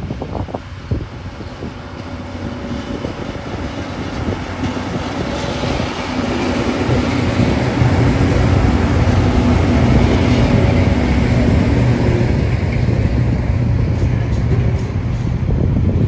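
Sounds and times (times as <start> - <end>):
diesel locomotive engine passing: 0.0 - 16.0.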